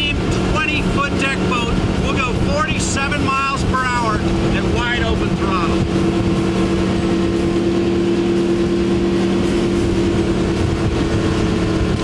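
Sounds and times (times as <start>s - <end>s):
outboard engine running at high speed: 0.0s - 12.0s
rushing water: 0.0s - 12.0s
rushing wind: 0.0s - 12.0s.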